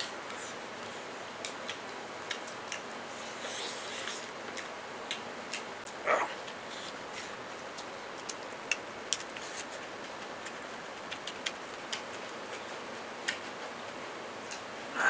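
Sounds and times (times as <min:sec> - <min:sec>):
eating clicks and smacks: 0:00.2 - 0:14.7.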